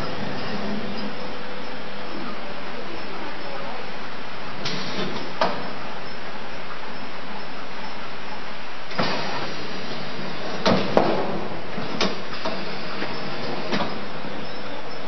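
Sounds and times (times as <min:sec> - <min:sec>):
peeling machine running: 0:00.0 - 0:06.2, 0:08.9 - 0:15.0.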